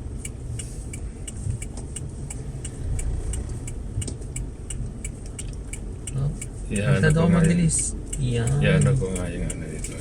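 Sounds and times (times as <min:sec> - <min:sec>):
car engine and road rumble: 0:00.0 - 0:10.0
light regular ticking: 0:00.0 - 0:10.0.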